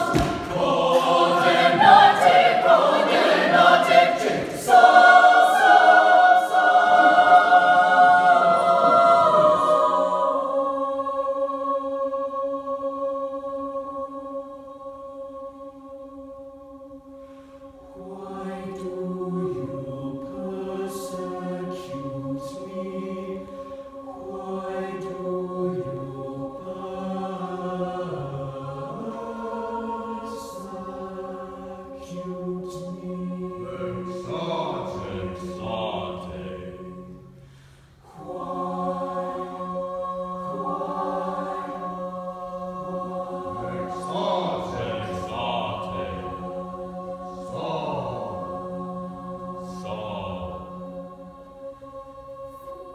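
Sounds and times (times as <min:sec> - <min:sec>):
a cappella choir singing: 0:00.0 - 0:52.9.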